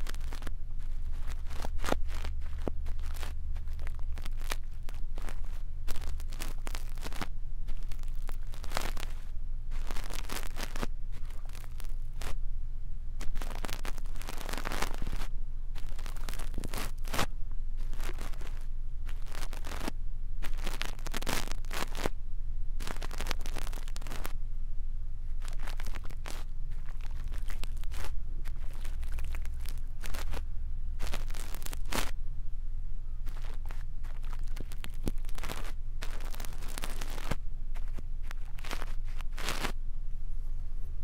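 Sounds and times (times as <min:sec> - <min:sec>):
brush scratching on microphone: 0:00.0 - 0:12.4, 0:13.2 - 0:22.2, 0:22.8 - 0:24.4, 0:25.4 - 0:30.4, 0:31.0 - 0:32.2, 0:33.3 - 0:39.8
steady low hum: 0:00.0 - 0:41.0.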